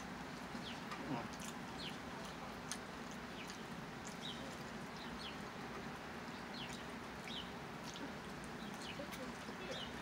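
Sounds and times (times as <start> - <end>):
low background hum: 0.0 - 10.0
small birds chirping: 0.0 - 10.0.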